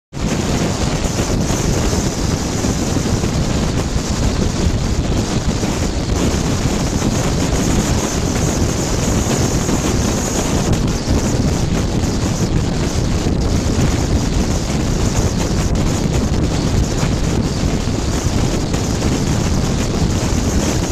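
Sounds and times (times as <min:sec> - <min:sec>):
wind buffeting microphone: 0:00.1 - 0:20.9.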